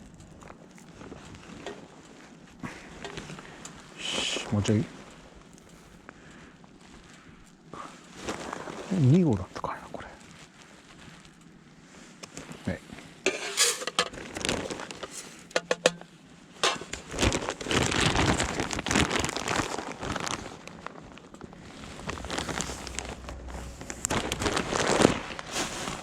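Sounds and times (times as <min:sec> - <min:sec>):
handling rice with clicks and crinkling: 0:00.0 - 0:26.0.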